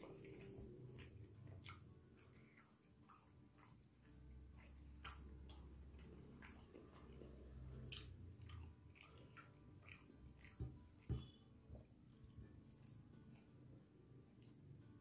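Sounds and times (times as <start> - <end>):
soft wet chewing: 0.0 - 15.0.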